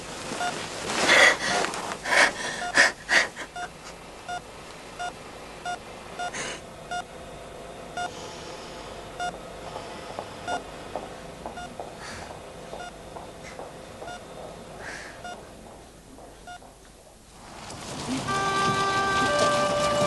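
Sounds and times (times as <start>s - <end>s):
ventilator hissing: 0.0s - 20.0s
patient monitor beeping: 0.3s - 7.2s, 7.9s - 8.2s, 9.1s - 16.8s, 18.3s - 20.0s.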